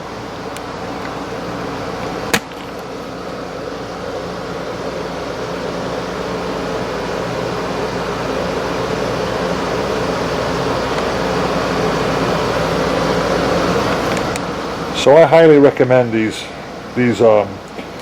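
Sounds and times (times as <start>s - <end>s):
motor humming: 0.0s - 18.0s.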